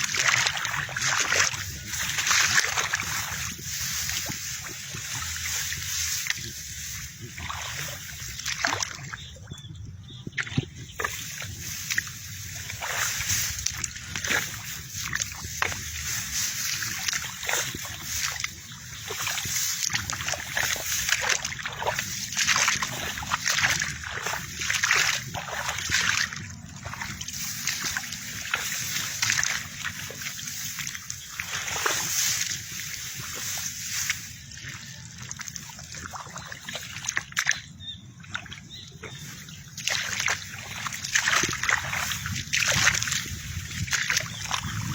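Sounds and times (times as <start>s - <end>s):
footsteps wading through water: 0.0s - 44.9s.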